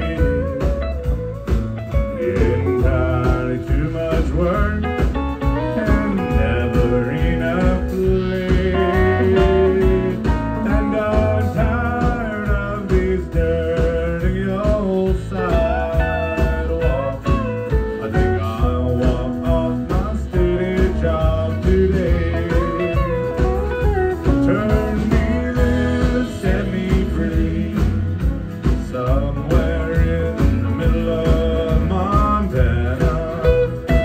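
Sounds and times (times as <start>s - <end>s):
country band playing: 0.0s - 34.0s.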